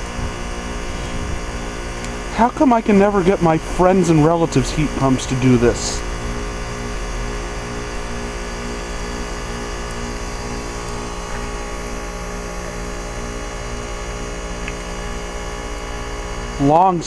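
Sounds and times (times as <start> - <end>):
heat pump compressor hum: 0.0 - 17.0.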